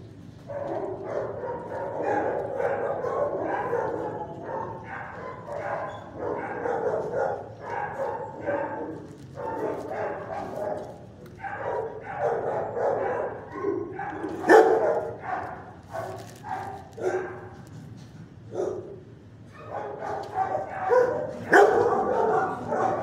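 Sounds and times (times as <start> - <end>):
dogs barking: 0.0 - 23.0.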